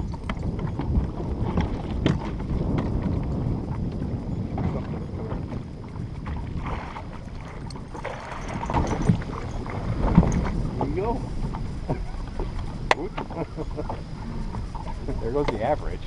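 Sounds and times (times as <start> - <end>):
water lapping at a boat: 0.0 - 16.0
wind rumbling on microphone: 0.0 - 16.0.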